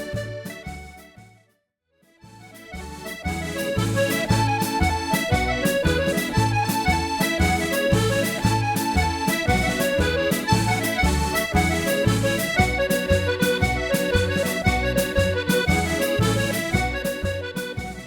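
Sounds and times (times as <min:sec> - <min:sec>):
accordion playing a jig: 0:00.0 - 0:01.4, 0:02.3 - 0:18.0.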